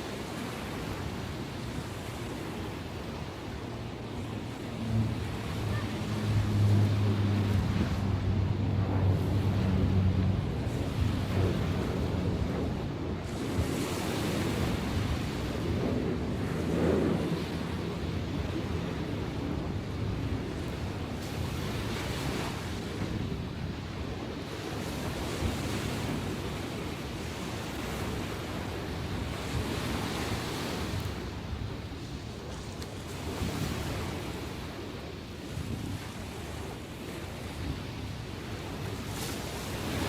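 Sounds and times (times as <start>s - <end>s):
sea waves breaking: 0.0s - 40.0s
wind rumbling on microphone: 0.0s - 40.0s.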